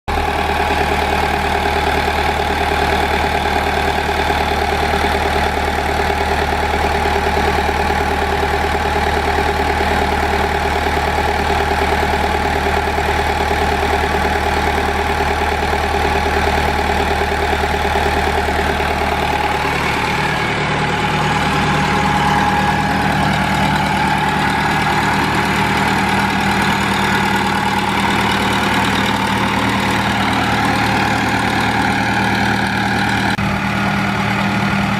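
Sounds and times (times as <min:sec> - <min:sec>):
backhoe engine idling: 0:00.1 - 0:34.9.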